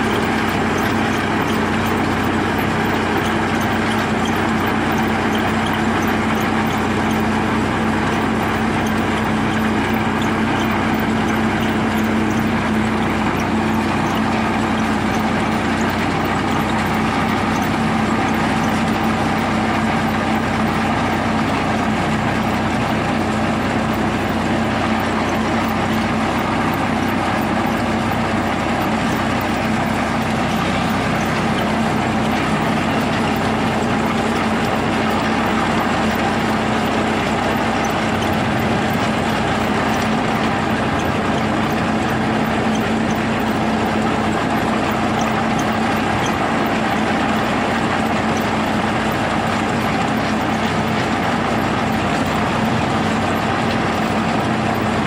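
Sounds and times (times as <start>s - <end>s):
tractor diesel engine drone: 0.0s - 55.0s.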